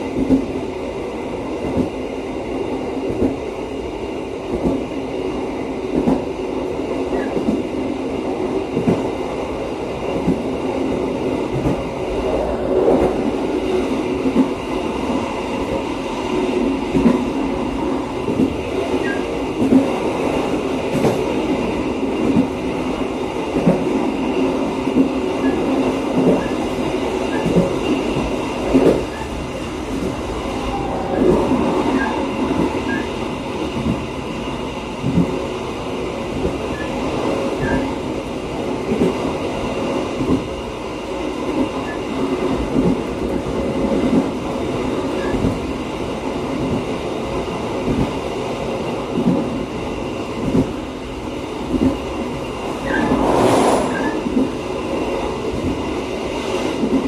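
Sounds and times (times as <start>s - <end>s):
knocks and rattles of train car: 0.0s - 0.8s, 1.5s - 3.6s, 4.4s - 5.0s, 5.8s - 12.2s, 12.8s - 53.2s, 53.9s - 57.0s
train wheels rumbling on rails: 0.0s - 57.0s.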